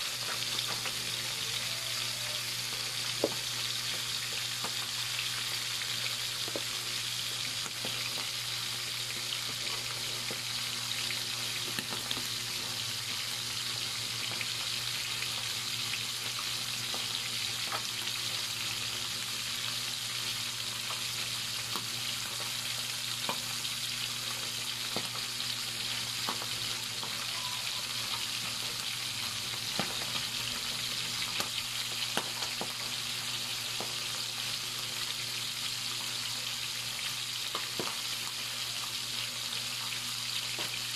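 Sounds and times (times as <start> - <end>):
fish frying in oil: 0.0 - 40.9.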